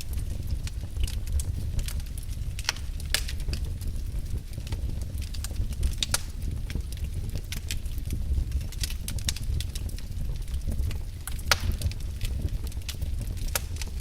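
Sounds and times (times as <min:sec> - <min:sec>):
fire crackling and popping: 0:00.0 - 0:14.0
low rumble of fire: 0:00.0 - 0:14.0.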